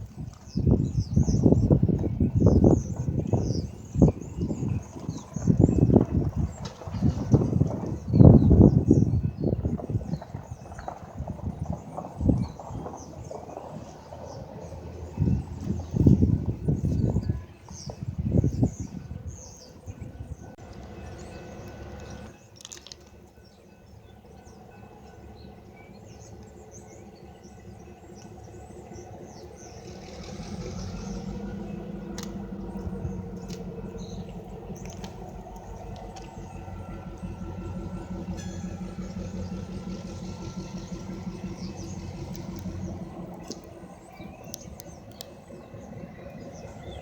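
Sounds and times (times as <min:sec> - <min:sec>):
diesel locomotive engine rumbling: 0:00.0 - 0:47.0.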